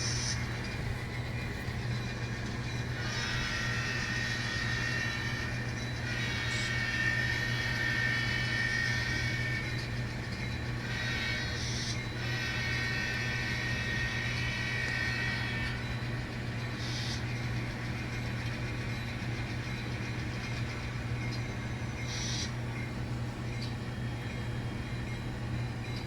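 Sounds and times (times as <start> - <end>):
high whine and hiss: 0.0 - 26.0
model locomotive engine drone: 0.0 - 26.0.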